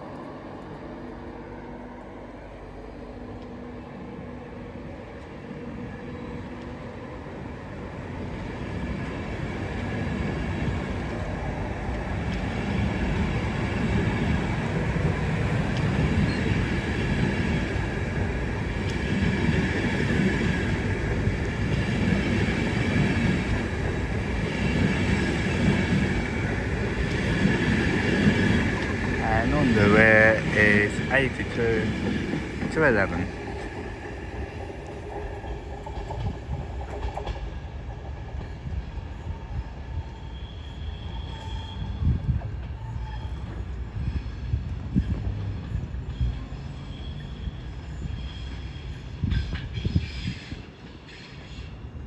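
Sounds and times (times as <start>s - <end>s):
train rumble and wheel noise: 0.0s - 52.0s.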